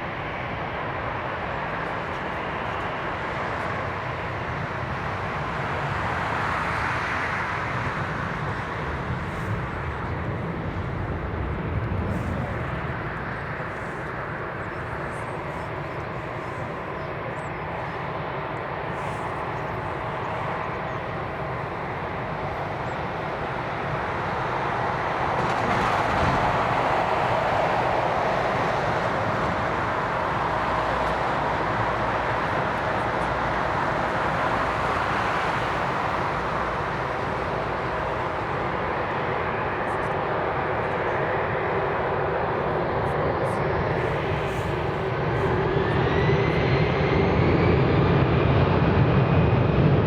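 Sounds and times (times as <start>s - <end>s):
jet engines passing close: 0.0s - 50.0s.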